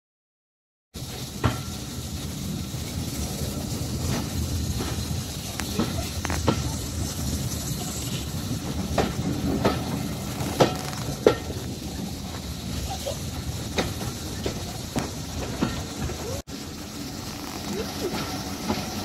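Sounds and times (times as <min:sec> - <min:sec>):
train rumbling: 0:01.0 - 0:19.0
train wheels clunking: 0:01.0 - 0:19.0.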